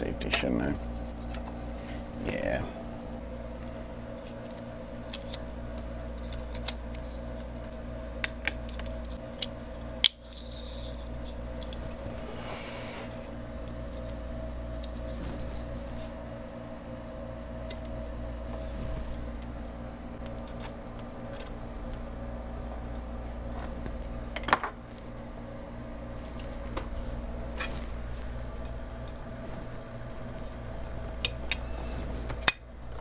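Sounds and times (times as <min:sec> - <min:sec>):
air conditioner hum: 0:00.0 - 0:33.0.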